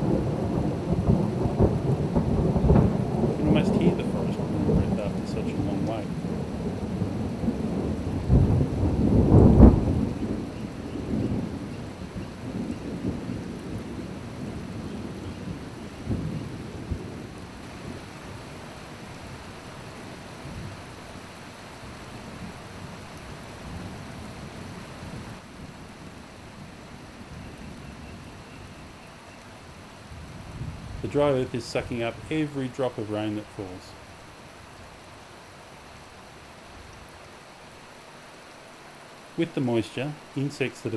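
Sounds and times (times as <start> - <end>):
thunder rumbling: 0.0 - 35.0
rain falling on forest: 0.0 - 40.9.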